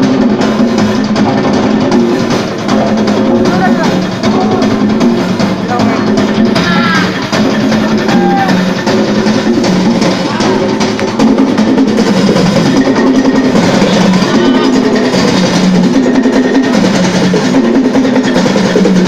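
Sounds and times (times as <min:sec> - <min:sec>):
percussion ensemble drumming: 0:00.0 - 0:19.0.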